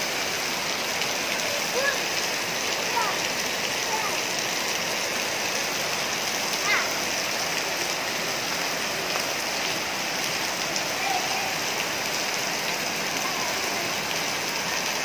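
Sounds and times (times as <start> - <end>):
heavy rain on pavement and trees: 0.0 - 15.0.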